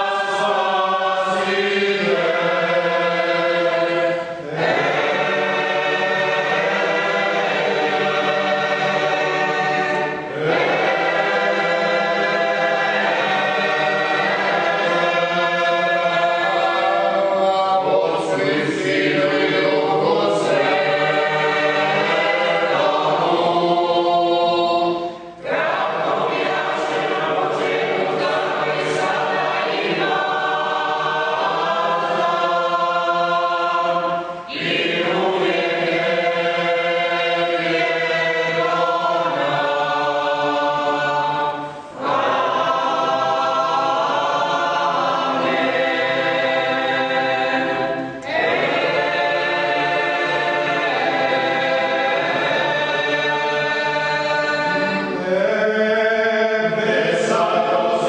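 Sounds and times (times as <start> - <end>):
mixed choir chanting: 0.0 - 58.0.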